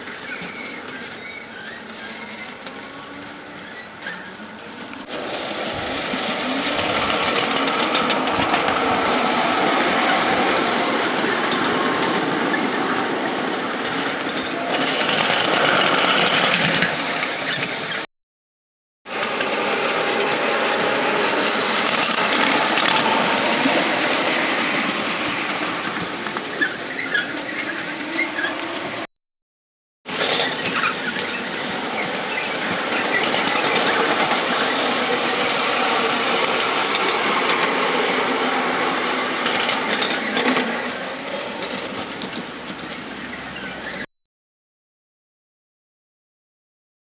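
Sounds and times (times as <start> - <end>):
miniature train wheels rattling on rail: 0.0 - 18.0, 19.1 - 29.1, 30.1 - 44.1.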